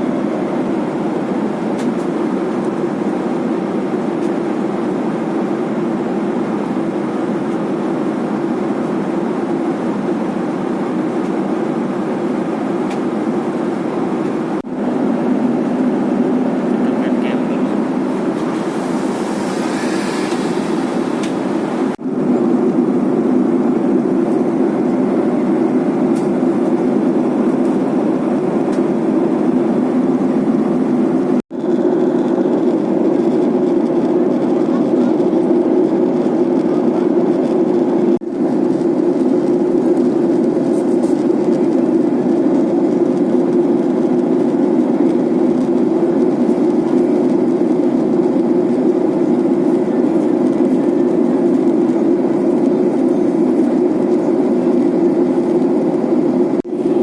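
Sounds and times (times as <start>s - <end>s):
airliner cabin drone: 0.0s - 57.0s.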